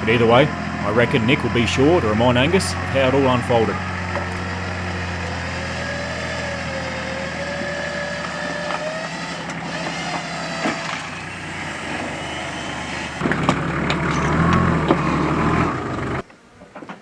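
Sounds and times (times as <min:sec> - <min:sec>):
wavering whine: 0:00.0 - 0:16.2
engine running: 0:00.0 - 0:16.3.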